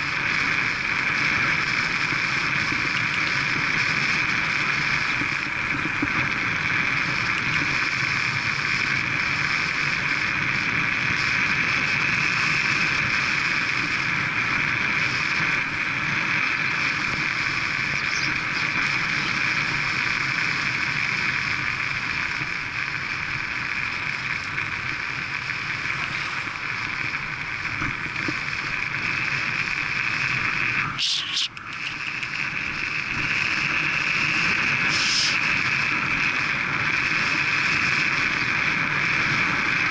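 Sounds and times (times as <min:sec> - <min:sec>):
tyres on tarmac: 0:00.0 - 0:39.9.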